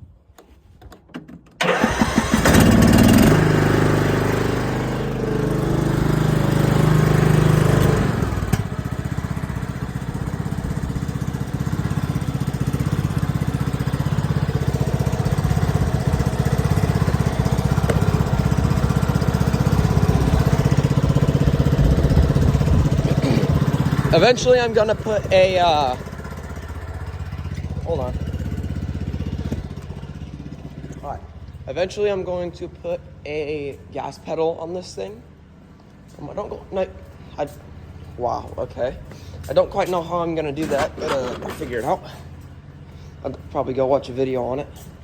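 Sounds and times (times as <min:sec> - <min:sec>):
riding lawn mower engine starting: 0:00.4 - 0:45.0.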